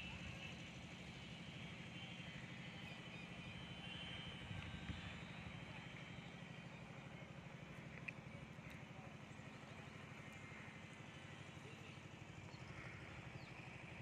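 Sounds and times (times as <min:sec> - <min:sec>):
faint low engine hum: 0:00.0 - 0:14.0.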